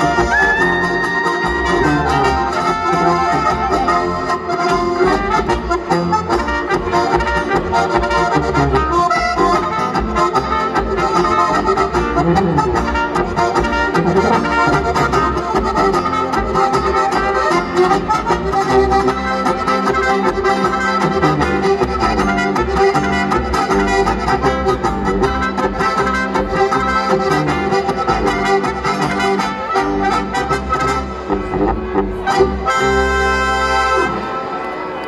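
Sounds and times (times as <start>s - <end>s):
bass beat: 0.0s - 33.3s
accordion: 0.0s - 35.0s
brass instruments: 0.0s - 35.0s
guitar: 0.0s - 35.0s.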